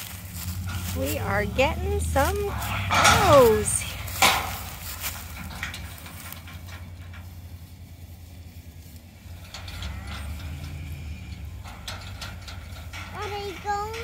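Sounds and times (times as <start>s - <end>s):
light metallic rattling: 0.0s - 14.0s
low engine hum: 0.0s - 14.0s.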